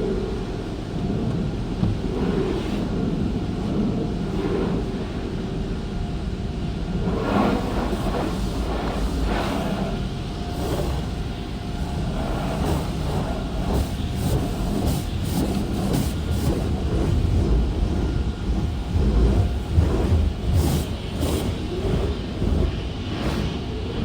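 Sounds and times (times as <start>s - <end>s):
car wash equipment rumbling: 0.0s - 24.0s.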